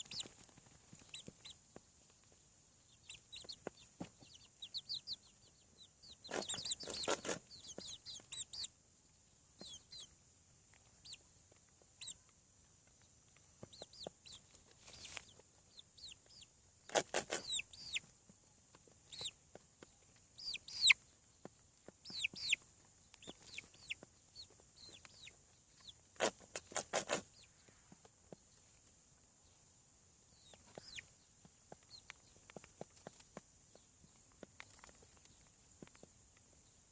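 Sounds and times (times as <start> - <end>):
chickens peeping and clucking: 0.0 - 36.9.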